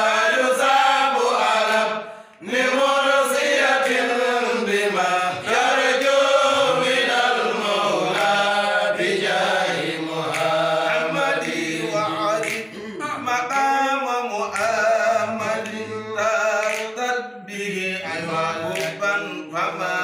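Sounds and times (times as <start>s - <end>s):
lead voice singing: 0.0s - 20.0s
men chanting unaccompanied: 0.0s - 20.0s.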